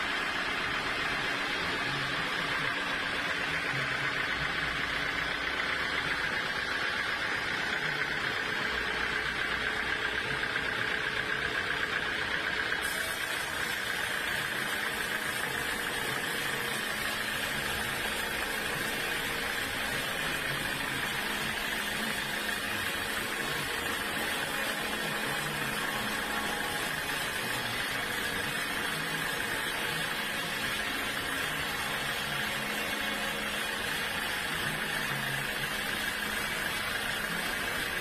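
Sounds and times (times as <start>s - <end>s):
sawmill machinery hum: 0.0s - 38.0s.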